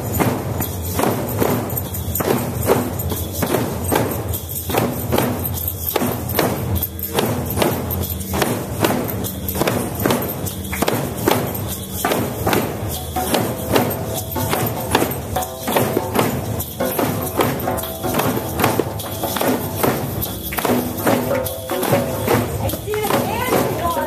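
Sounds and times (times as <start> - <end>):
crowd striking frame drums: 0.0 - 24.0
djembes: 0.0 - 24.0.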